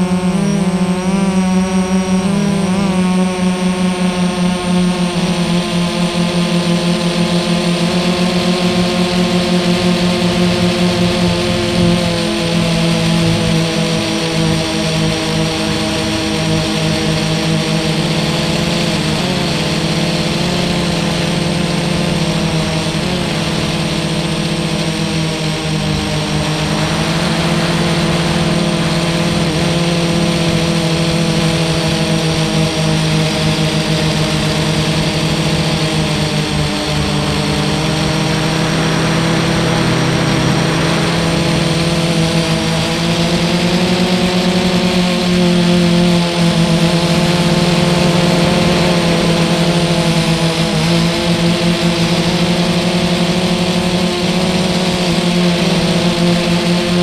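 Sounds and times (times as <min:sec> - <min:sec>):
quadcopter motors buzzing: 0:00.0 - 0:57.0.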